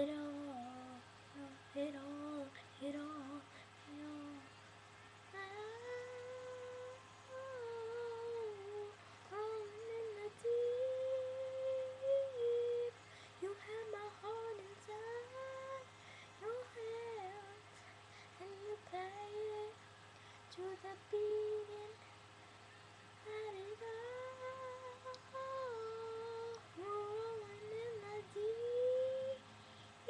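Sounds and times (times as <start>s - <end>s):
girl singing wordless phrases: 0.0s - 4.5s, 5.3s - 19.8s, 20.5s - 22.0s, 23.2s - 29.5s.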